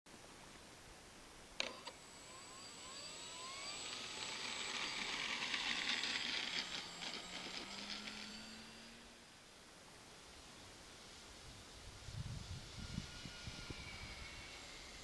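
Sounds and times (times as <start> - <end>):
electric motor and propeller whine: 1.6 - 15.0.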